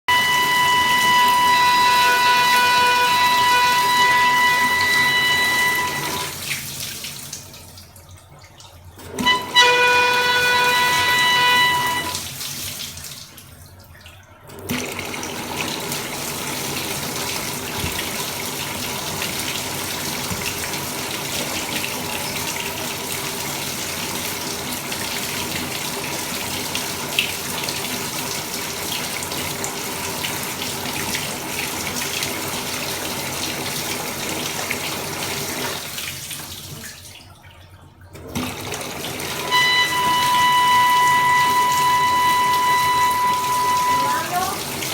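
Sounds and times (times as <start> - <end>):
water running from tap: 0.0 - 44.9.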